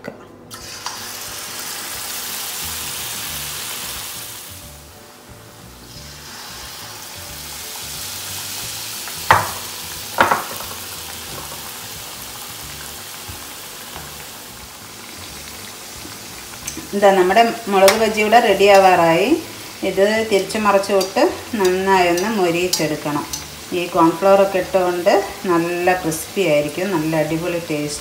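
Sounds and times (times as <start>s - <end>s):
deep-frying sizzle in oil: 0.5s - 28.0s.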